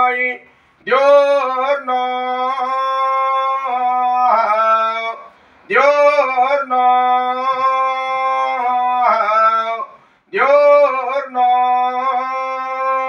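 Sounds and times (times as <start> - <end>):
man chanting a hymn: 0.0 - 13.0.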